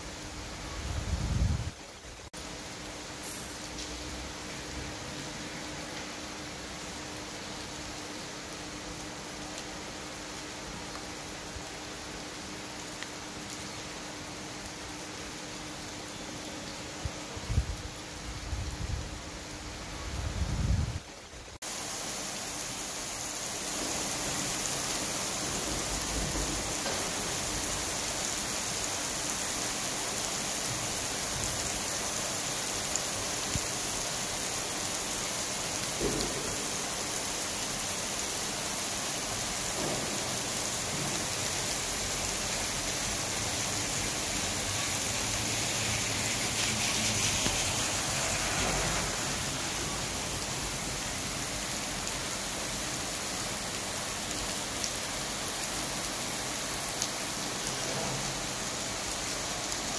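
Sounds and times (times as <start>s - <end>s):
rain on asphalt: 0.0s - 59.9s.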